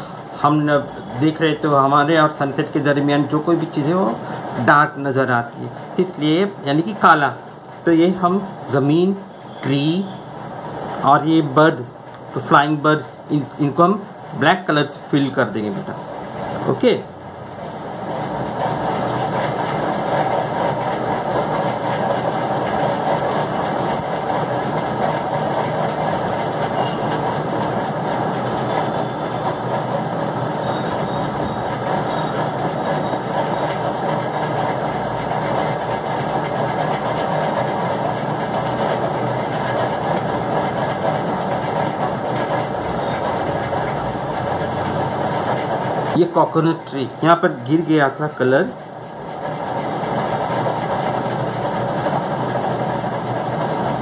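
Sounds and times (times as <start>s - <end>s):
steady mechanical drone: 0.0s - 54.0s.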